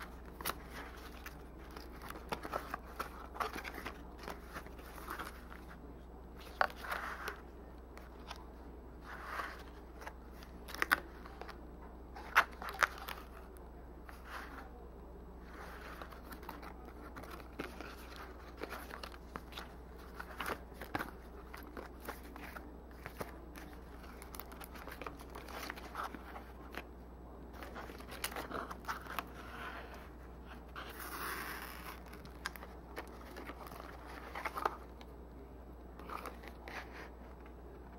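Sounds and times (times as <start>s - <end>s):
stiff paper rustling and crackling: 0.0s - 11.5s, 15.4s - 26.9s, 27.5s - 35.1s.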